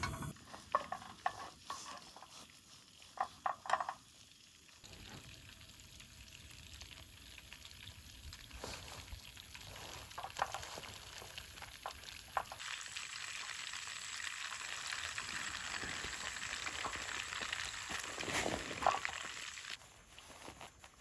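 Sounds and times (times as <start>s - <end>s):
butter sizzling in a frying pan: 0.4s - 19.8s.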